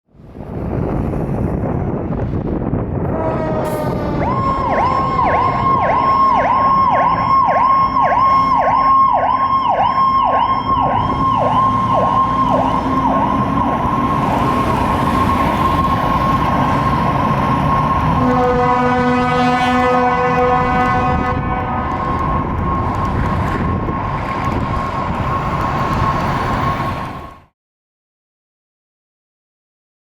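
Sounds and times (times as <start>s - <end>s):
truck rumble: 0.1s - 27.5s
fire engine siren: 0.4s - 27.5s.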